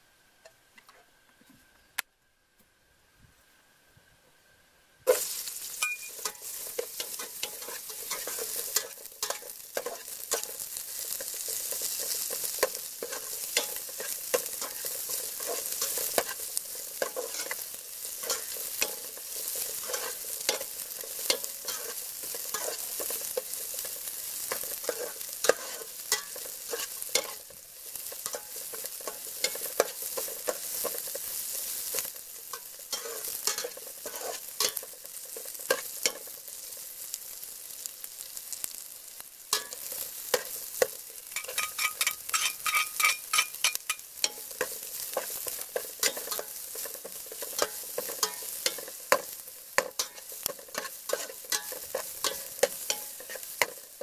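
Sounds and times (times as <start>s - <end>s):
food sizzling in a pot: 5.0s - 54.0s
metal spatula scraping a pot: 5.1s - 36.3s, 39.6s - 54.0s.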